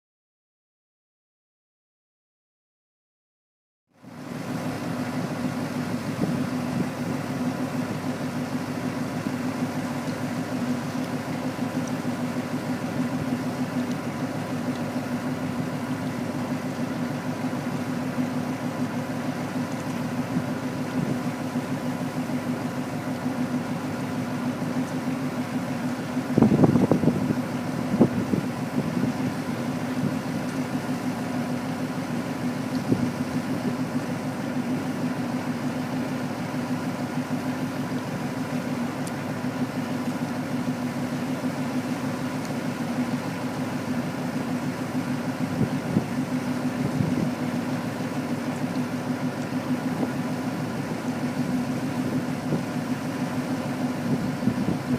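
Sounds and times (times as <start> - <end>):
truck engine idling: 3.9 - 54.9
engine clatter: 4.0 - 54.9.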